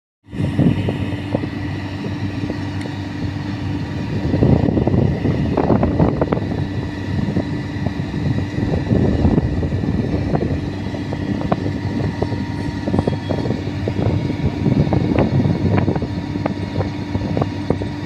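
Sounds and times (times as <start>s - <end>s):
constant high whine: 0.2s - 18.0s
drilling rig engine drone: 0.2s - 18.0s.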